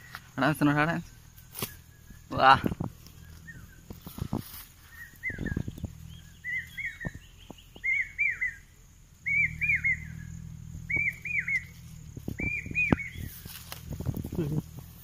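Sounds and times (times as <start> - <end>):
bird chirping: 0.0 - 15.0
low steady rumble: 0.0 - 15.0.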